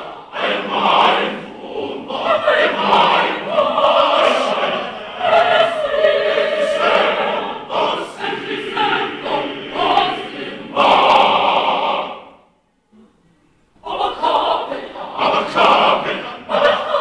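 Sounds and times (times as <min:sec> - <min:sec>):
mixed choir singing: 0:00.0 - 0:12.6, 0:13.8 - 0:17.0.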